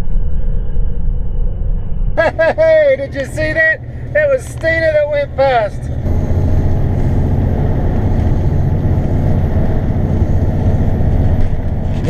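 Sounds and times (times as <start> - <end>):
truck diesel engine drone: 0.4 - 12.0
road noise: 2.2 - 12.0.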